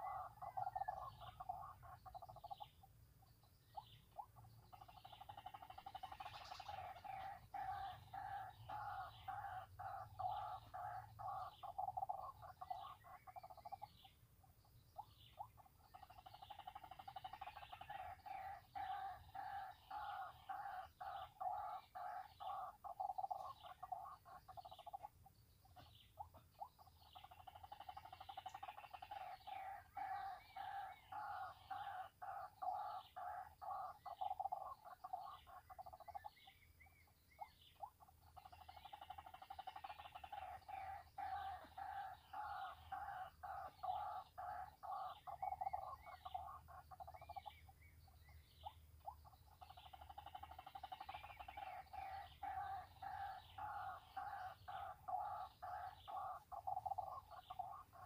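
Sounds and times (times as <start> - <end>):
bird croaking calls: 0.0 - 58.0.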